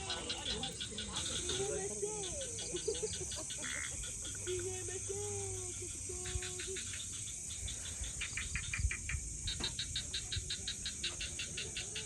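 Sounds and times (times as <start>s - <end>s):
night insects chirping: 0.0s - 12.0s.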